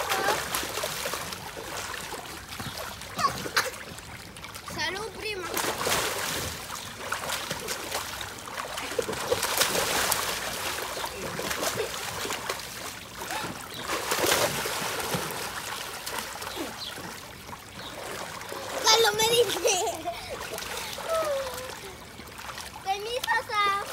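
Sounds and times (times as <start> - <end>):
water splashing in a pool: 0.0 - 23.9.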